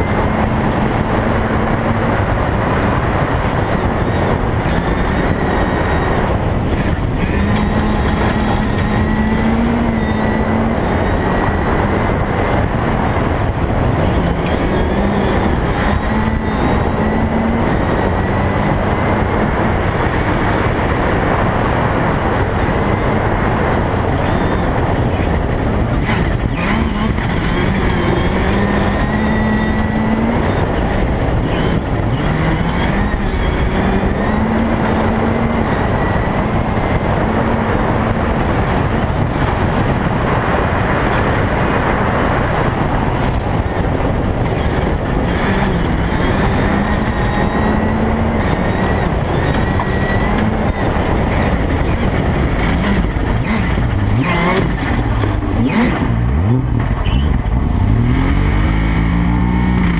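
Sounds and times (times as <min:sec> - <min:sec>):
rally car engine revving: 0:00.0 - 0:59.9
tyre and gravel noise: 0:00.0 - 0:59.9.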